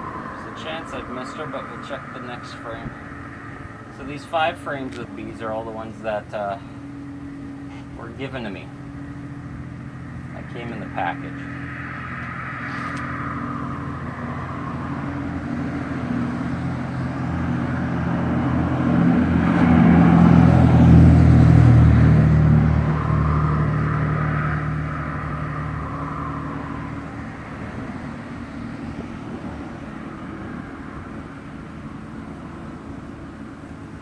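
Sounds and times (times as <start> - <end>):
vehicle engine passing: 0.0 - 34.0.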